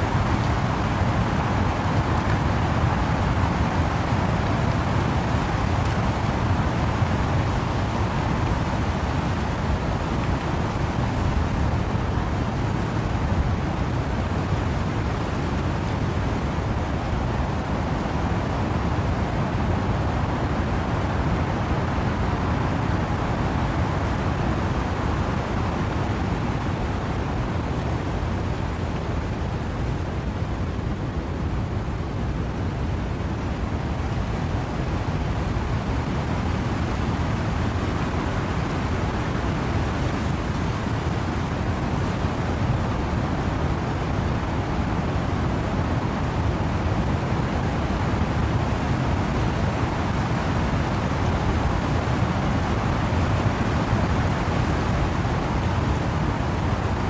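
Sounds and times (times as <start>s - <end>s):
wind and rain in trees: 0.0s - 57.0s.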